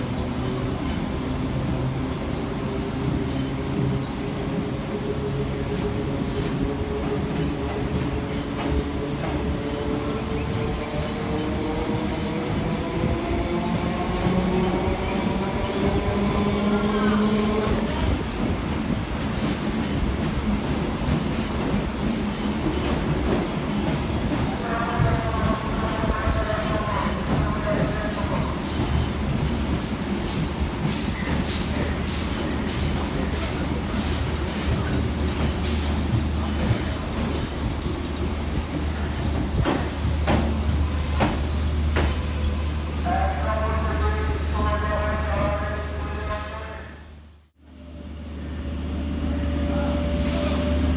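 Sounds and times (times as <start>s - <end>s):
electric train rumbling: 0.0s - 50.9s.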